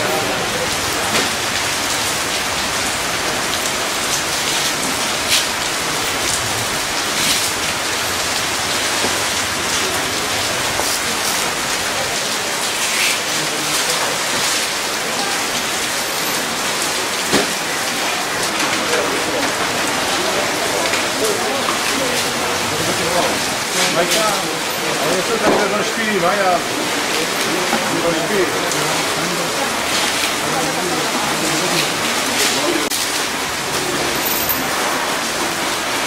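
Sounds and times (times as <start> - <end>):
steady rain hissing: 0.0 - 36.0.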